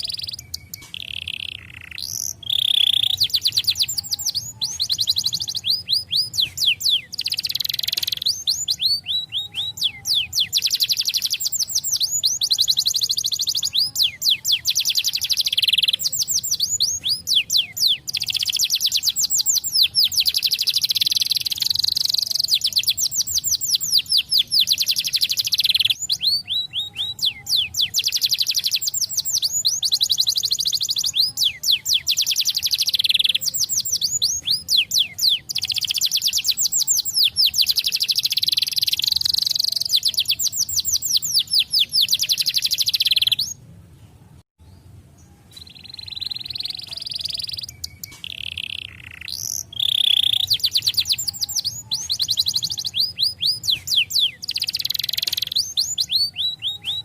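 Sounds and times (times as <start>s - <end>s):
canary singing trills: 0.0s - 43.6s, 44.6s - 57.0s.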